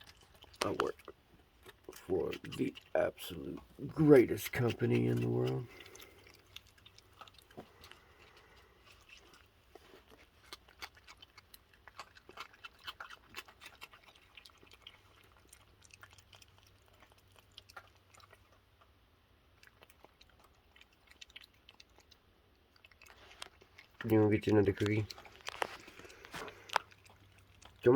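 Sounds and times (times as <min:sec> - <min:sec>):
animals crunching cookies: 0:00.0 - 0:27.9.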